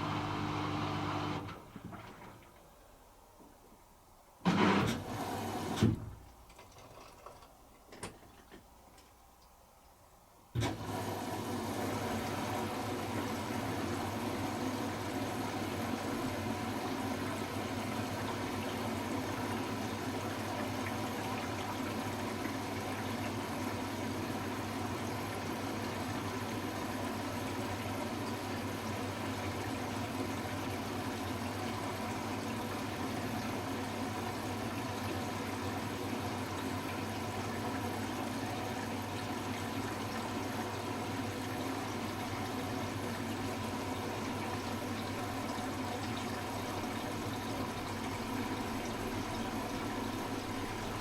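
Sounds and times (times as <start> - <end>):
washing machine water rushing: 0.0 - 2.9, 4.5 - 6.2, 10.6 - 51.0
washing machine hum and hiss: 0.0 - 51.0.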